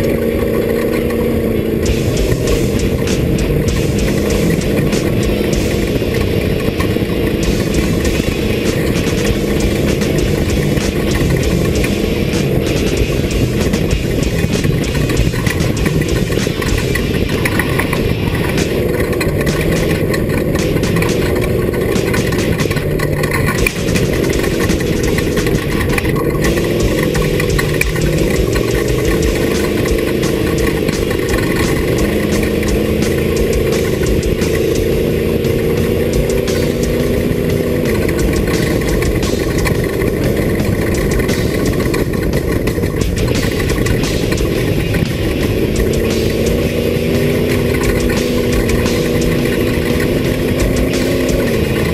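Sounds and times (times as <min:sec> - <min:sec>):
continuous rushing noise: 0:00.0 - 0:51.9
vehicle engine running hard: 0:00.0 - 0:51.9.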